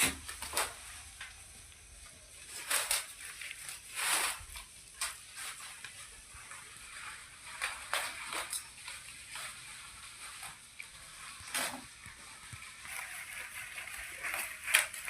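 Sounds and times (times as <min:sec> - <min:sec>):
rustling and crunching: 0:00.0 - 0:15.0.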